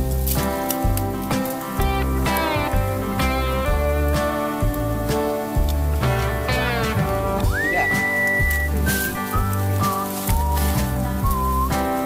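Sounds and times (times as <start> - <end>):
instrumental music with bass pulse: 0.0 - 12.0.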